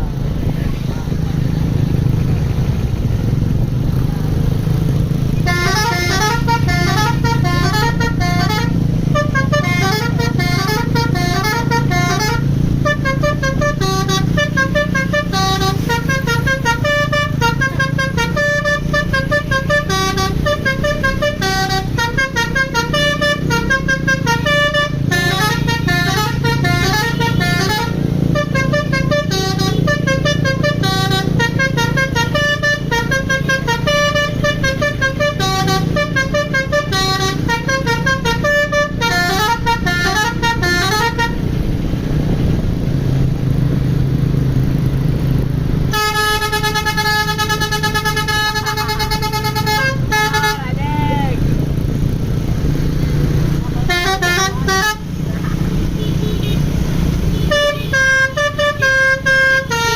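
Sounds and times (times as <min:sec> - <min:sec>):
bus engine hum: 0:00.0 - 0:59.9
bus horn playing a tune: 0:05.2 - 0:42.3, 0:45.8 - 0:51.6, 0:53.5 - 0:59.9.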